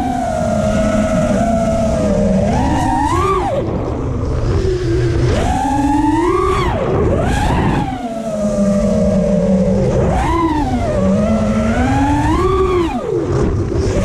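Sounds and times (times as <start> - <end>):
quadcopter motors whining: 0.0 - 14.0
wind rumble on microphone: 0.0 - 14.0.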